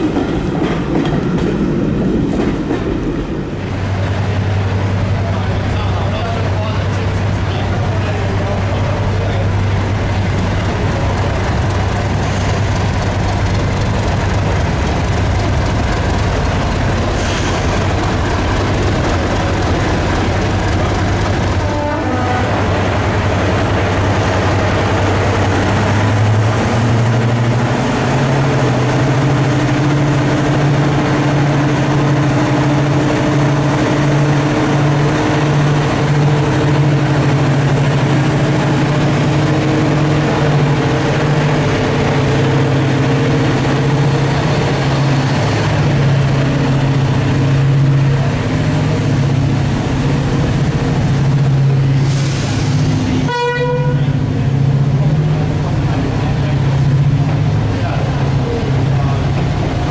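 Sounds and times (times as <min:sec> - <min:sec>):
diesel train engine droning: 0:00.0 - 0:59.9.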